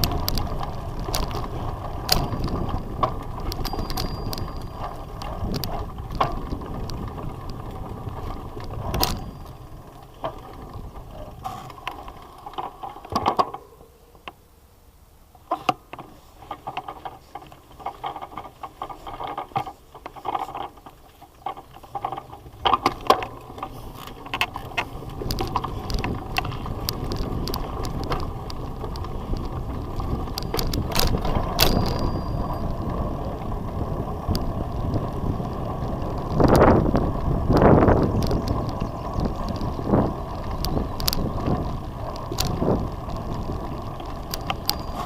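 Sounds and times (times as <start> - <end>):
rush of tyre and wind noise: 0.0 - 13.2, 21.6 - 45.0
bicycle frame and chain rattling: 0.0 - 13.9, 15.4 - 45.0.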